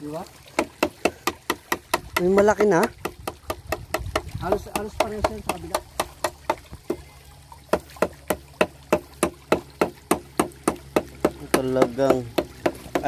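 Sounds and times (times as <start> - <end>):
sharp knocks: 0.5 - 7.0, 7.7 - 13.0.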